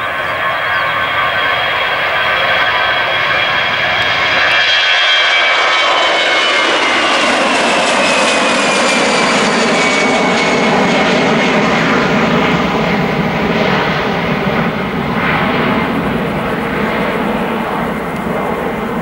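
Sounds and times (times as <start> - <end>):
jet engine whine: 0.0 - 19.0
jet engines rumbling: 0.0 - 19.0.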